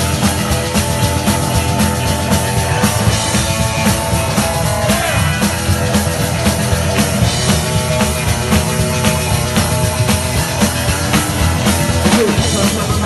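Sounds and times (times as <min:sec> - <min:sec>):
drum kit beat: 0:00.0 - 0:13.0
electric guitar: 0:00.0 - 0:13.0.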